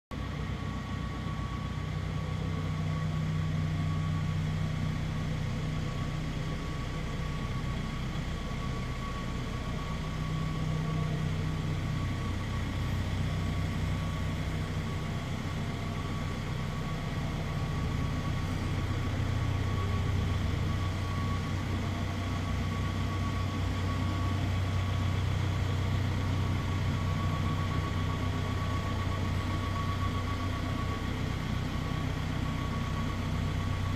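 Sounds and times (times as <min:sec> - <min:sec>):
diesel engine idling: 0:00.2 - 0:33.9
high-pitched whine: 0:00.2 - 0:33.9.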